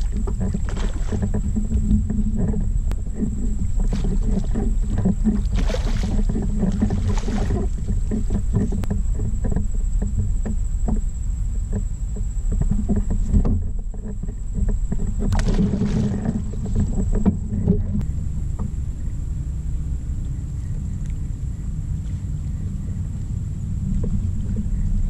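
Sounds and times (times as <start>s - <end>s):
water splashing: 0.0s - 11.1s, 12.6s - 25.0s
low microphone rumble: 0.0s - 25.0s.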